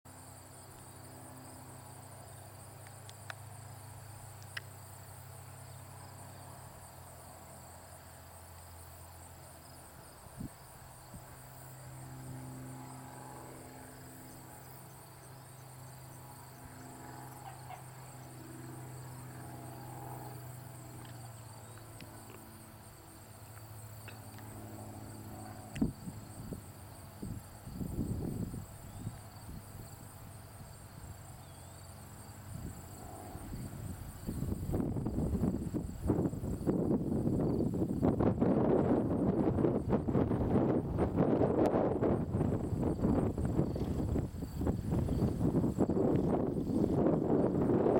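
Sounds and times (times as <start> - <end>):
airplane engine droning: 0.1 - 47.9
insects chirring: 0.1 - 47.9.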